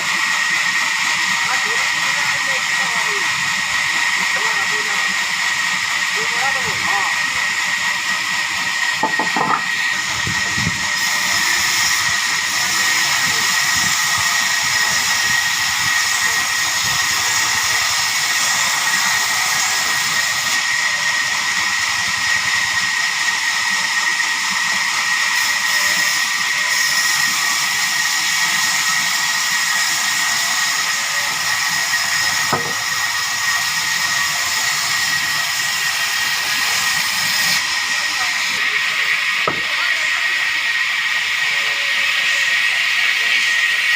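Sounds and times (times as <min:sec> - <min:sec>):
saw whining through timber: 0:00.0 - 0:43.9.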